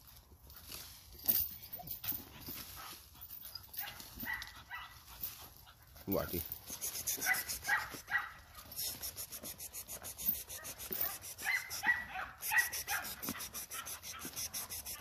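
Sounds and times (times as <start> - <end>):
dog panting: 2.0 - 15.0.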